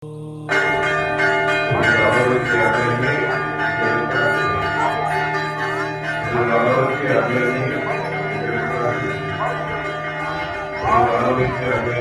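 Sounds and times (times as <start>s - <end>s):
church bells ringing: 0.4s - 12.0s.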